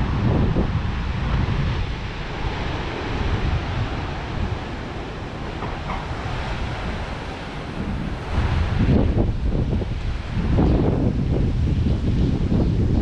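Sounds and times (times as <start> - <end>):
sea surf washing along shore: 0.0 - 13.0
wind buffeting microphone: 0.0 - 13.0.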